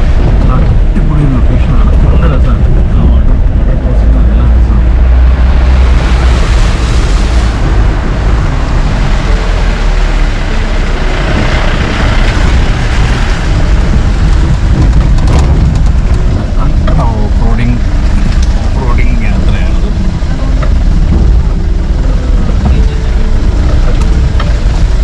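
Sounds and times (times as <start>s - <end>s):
off-road vehicle engine rumble: 0.0s - 25.0s.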